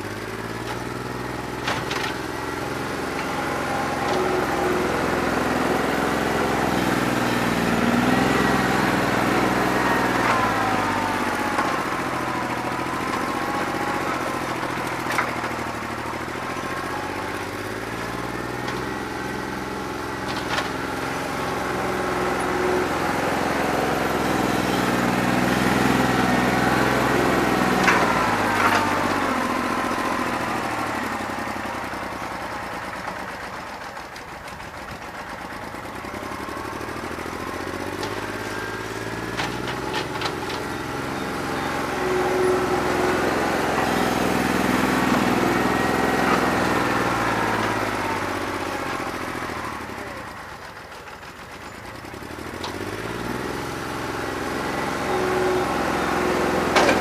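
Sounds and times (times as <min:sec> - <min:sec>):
tractor diesel engine running rough: 0:00.0 - 0:57.0.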